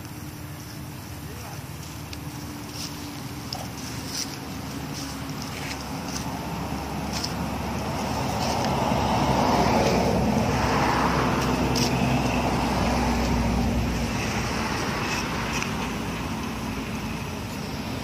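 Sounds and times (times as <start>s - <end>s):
vehicle passing by: 2.4s - 18.0s.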